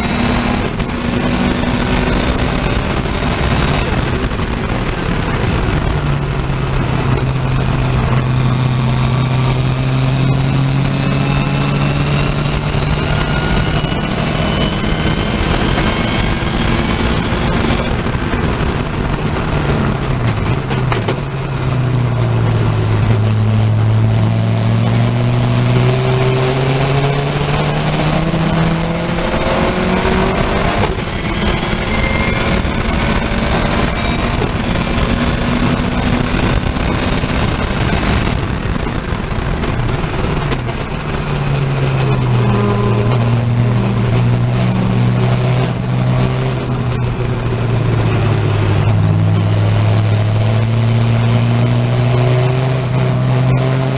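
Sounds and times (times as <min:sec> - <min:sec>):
engine downshifts: 0:00.0 - 0:53.9
race car engine at full throttle: 0:00.0 - 0:53.9.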